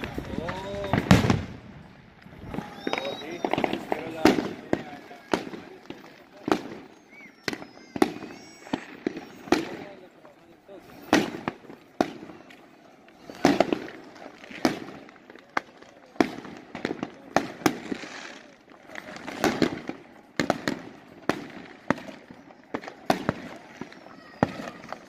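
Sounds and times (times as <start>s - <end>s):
fireworks bangs and cracks: 0.0s - 25.0s.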